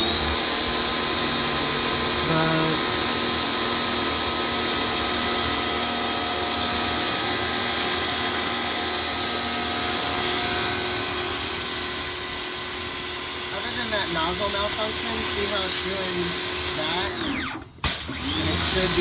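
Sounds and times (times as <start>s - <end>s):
pressure washer pump humming: 0.0s - 19.0s
water jet hissing: 0.0s - 19.0s.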